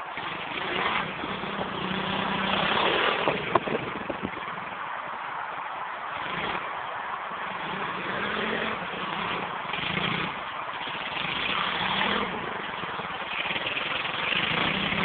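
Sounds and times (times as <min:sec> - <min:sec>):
pit bike engine revving: 0:00.0 - 0:04.9, 0:06.1 - 0:15.0.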